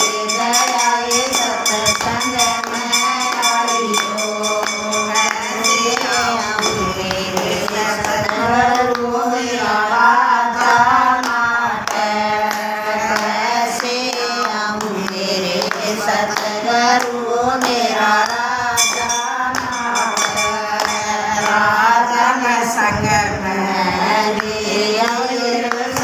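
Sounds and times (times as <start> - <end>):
hand claps: 0.0 - 9.1, 10.6 - 21.7, 24.4 - 26.0
women singing devotional song: 0.0 - 26.0.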